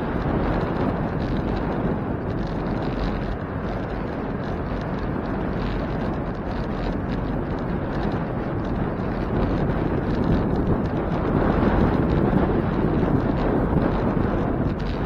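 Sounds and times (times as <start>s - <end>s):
bicycle tyres rumbling on road: 0.0s - 15.0s
wind buffeting microphone: 0.0s - 15.0s.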